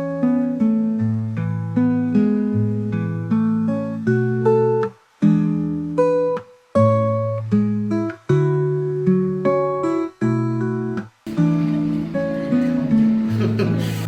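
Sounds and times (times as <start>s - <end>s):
acoustic guitar plucked chords: 0.0s - 14.0s.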